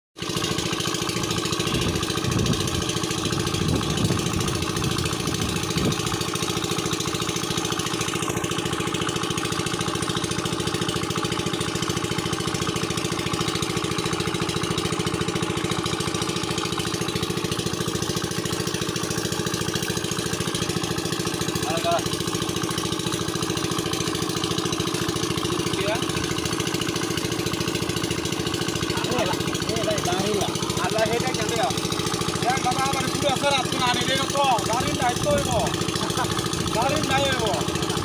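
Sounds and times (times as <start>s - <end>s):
small engine running: 0.2s - 38.0s.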